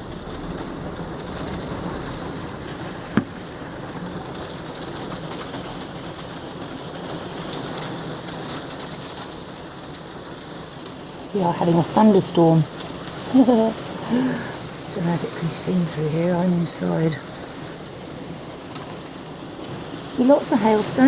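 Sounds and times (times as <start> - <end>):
hailstones beating on roof: 0.0 - 21.0.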